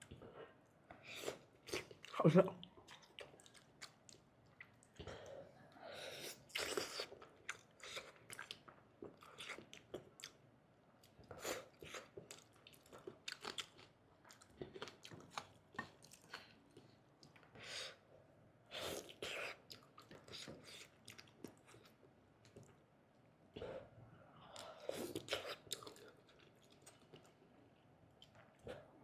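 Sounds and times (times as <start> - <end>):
person chewing food: 0.0 - 10.4, 11.0 - 18.0, 18.7 - 22.8, 23.6 - 29.0.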